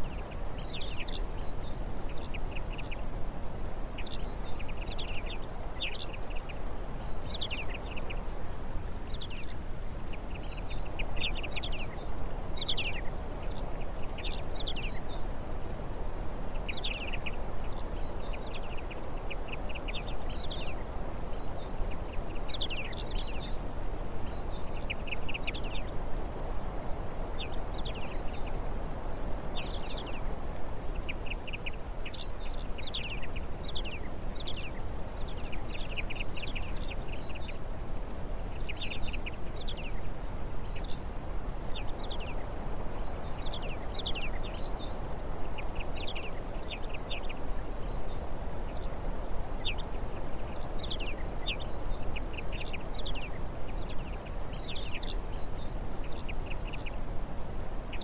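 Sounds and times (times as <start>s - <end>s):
low background rush: 0.0s - 58.0s
songbirds chirping: 0.0s - 58.0s.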